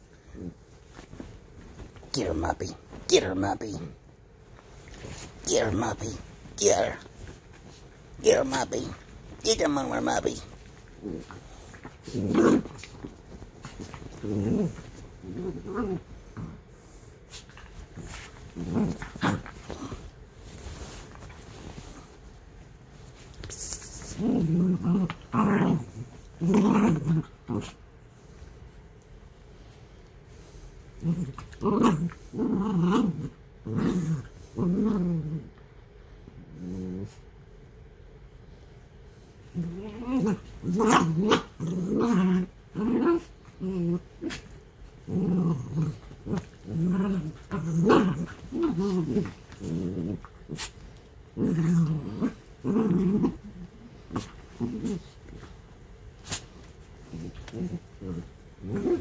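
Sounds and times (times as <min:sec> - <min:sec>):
small dogs growling: 0:00.1 - 0:04.0, 0:04.7 - 0:22.3, 0:23.1 - 0:28.4, 0:30.3 - 0:37.3, 0:39.2 - 0:59.0.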